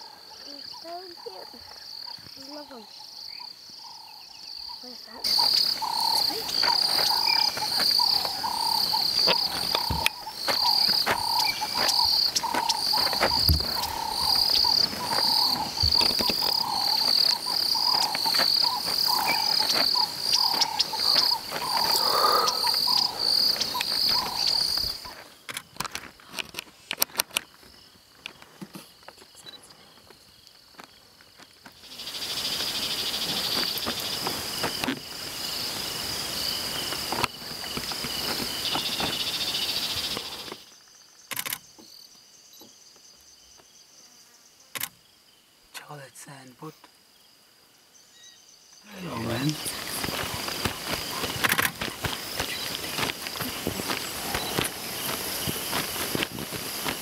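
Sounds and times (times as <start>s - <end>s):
high insect trill: 0.0s - 57.0s
insects pulsing chirp: 0.0s - 57.0s.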